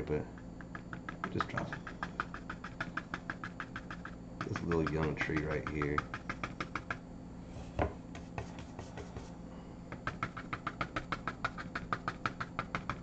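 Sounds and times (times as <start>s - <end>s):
paintbrush tapping on canvas: 0.6s - 7.0s, 7.8s - 9.3s, 9.9s - 13.0s.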